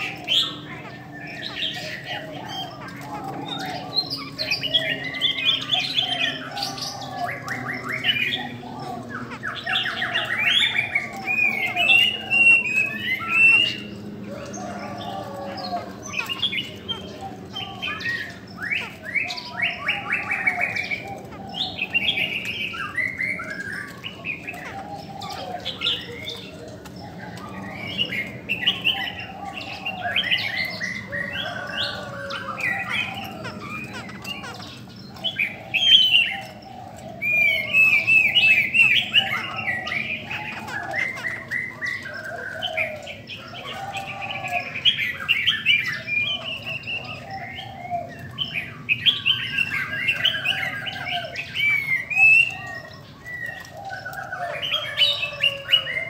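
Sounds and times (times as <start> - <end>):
birds singing whistled phrases: 0.0 - 56.0
lower warbling birdsong: 0.0 - 56.0.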